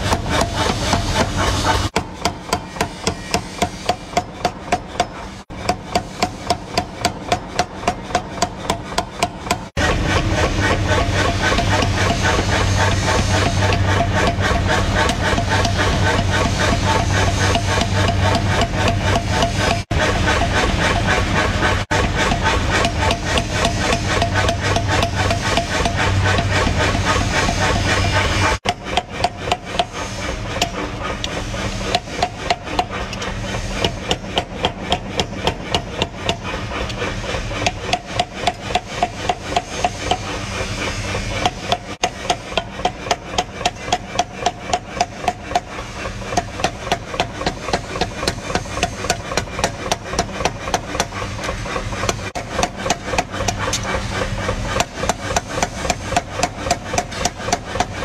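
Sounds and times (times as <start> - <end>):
power hammer striking hot steel: 0.0 - 58.0
steady machine hum: 0.0 - 58.0.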